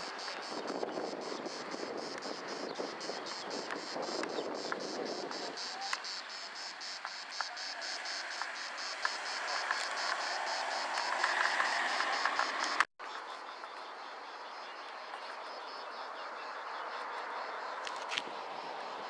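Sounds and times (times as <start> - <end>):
cicadas chirping: 0.0 - 19.0.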